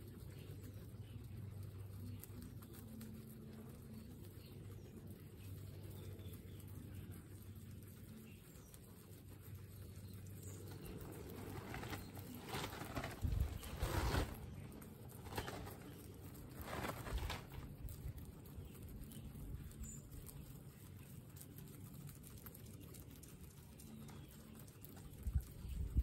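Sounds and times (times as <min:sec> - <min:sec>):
guinea pigs munching grass: 0:00.0 - 0:26.0.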